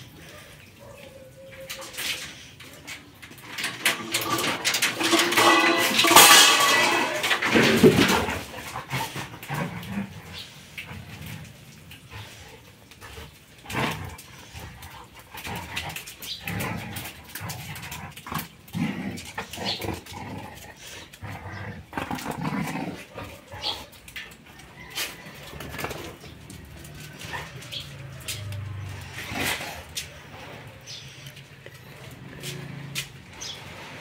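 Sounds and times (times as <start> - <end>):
dogs scuffling: 0.0 - 34.0
dogs growling: 2.5 - 34.0.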